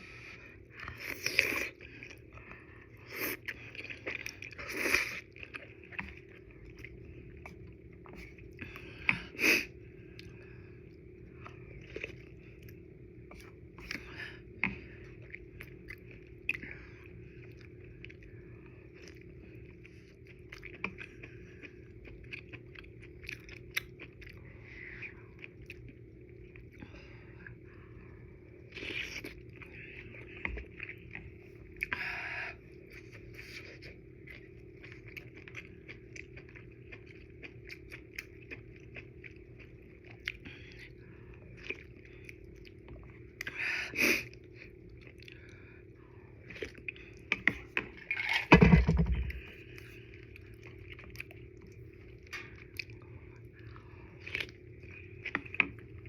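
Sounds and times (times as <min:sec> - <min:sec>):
chewing noodles: 0:00.1 - 0:48.7, 0:49.3 - 0:56.0.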